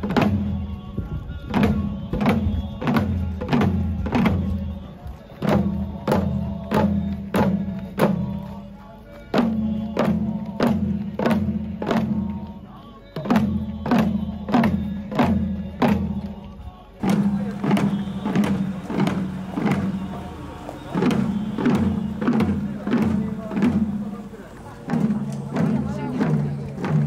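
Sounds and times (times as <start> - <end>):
hand-held fan drums struck: 0.0 - 27.0
group chanting in monotone: 0.1 - 27.0.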